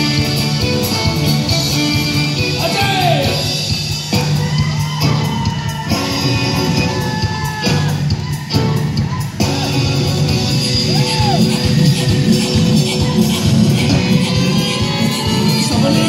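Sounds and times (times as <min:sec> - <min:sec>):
drums: 0:00.0 - 0:16.0
people shouting and whooping: 0:02.6 - 0:16.0.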